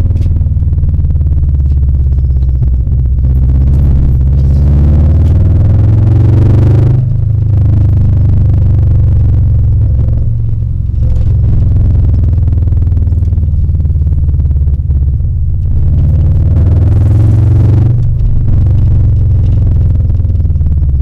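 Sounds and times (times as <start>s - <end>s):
car engine deep rumble: 0.0s - 21.0s.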